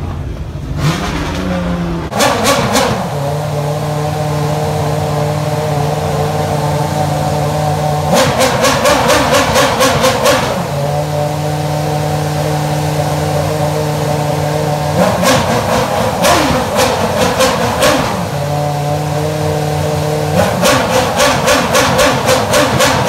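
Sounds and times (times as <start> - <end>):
race car engine idling: 0.0 - 23.0
engine revs blipping: 0.6 - 23.0.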